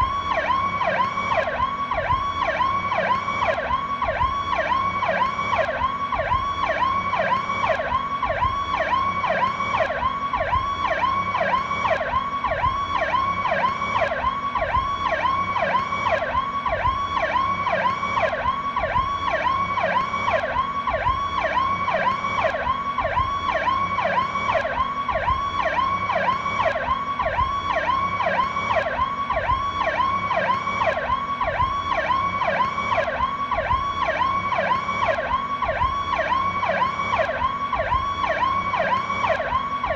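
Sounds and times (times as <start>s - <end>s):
police siren sweeping: 0.0s - 39.9s.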